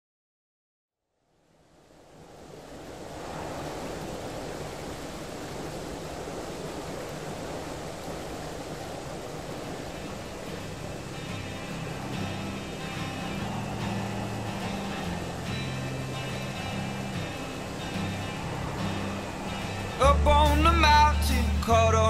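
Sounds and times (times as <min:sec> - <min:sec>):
sea waves rushing: 0:01.5 - 0:22.0.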